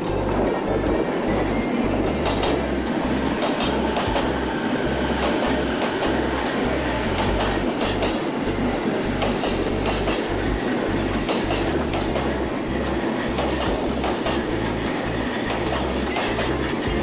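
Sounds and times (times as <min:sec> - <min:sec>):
train rumbling past: 0:00.0 - 0:17.0
wheels clacking over rail joints: 0:00.2 - 0:17.0.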